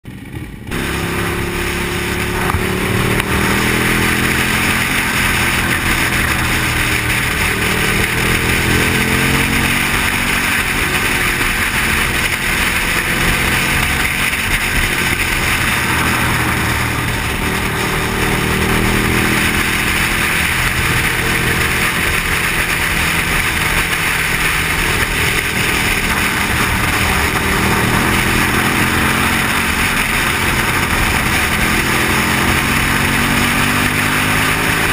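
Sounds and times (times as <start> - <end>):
motorcycle engine accelerating: 0.0 - 34.9
wind noise: 1.2 - 34.9.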